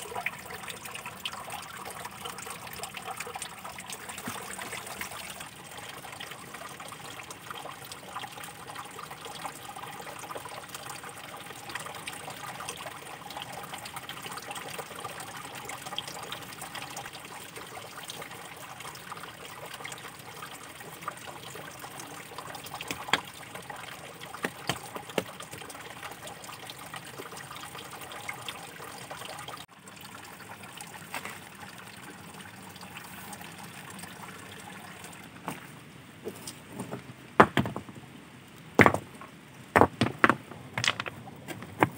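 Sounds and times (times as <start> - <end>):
water running and trickling: 0.0 - 41.9.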